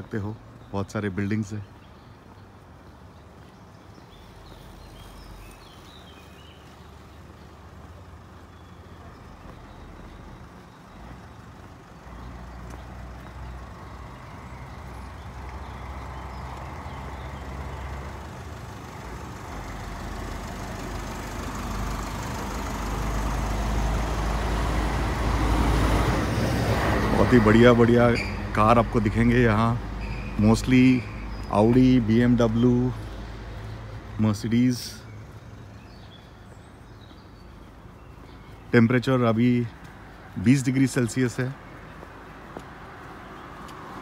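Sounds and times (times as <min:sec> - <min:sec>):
road traffic rumble and tyre noise: 0:00.0 - 0:44.0.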